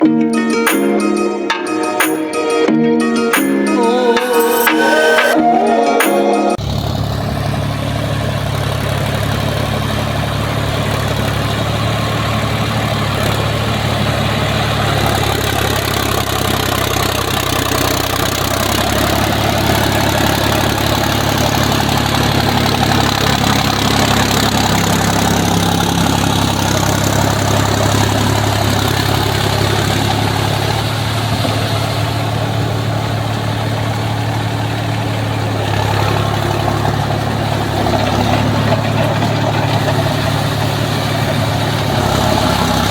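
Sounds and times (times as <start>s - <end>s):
tractor diesel engine running: 6.6s - 42.9s.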